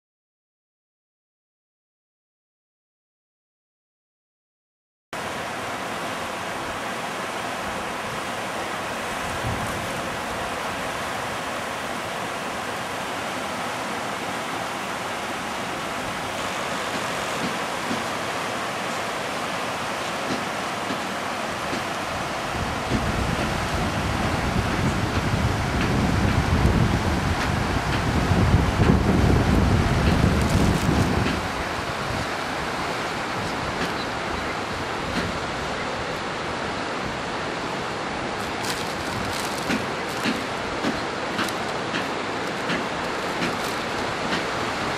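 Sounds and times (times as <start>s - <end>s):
river rapids rushing over rocks: 5.2s - 28.8s, 29.6s - 44.9s.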